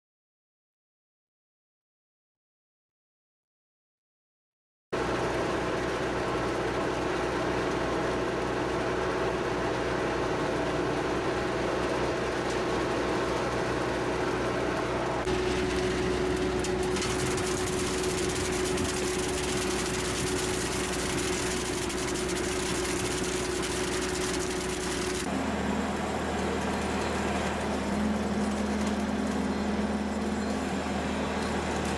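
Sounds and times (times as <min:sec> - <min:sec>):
skid steer engine running: 0:05.0 - 0:31.9.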